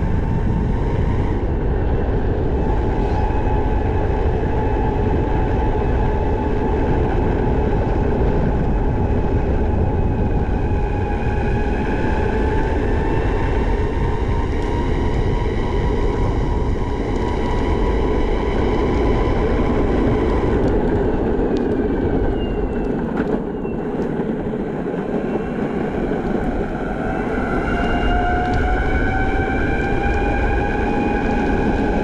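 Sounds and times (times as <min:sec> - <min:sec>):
skateboard wheels rolling rumble: 0:00.0 - 0:32.0.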